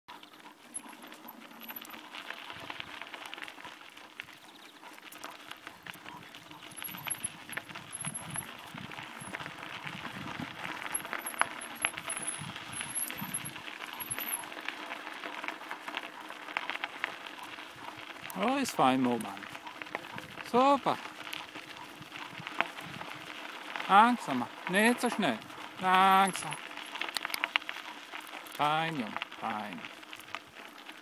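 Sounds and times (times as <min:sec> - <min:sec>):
bicycle tyres rolling on gravel: 0:00.1 - 0:31.0.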